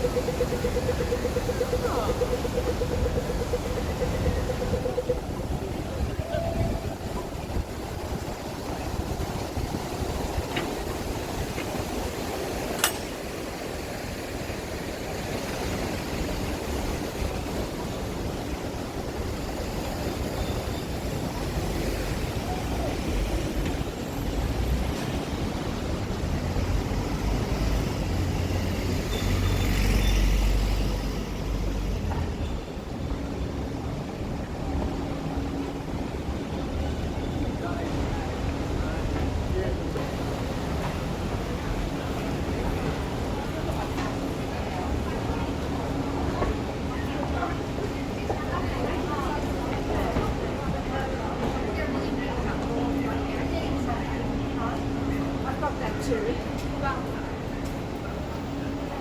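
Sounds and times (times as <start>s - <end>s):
traffic hum: 0.0s - 59.0s.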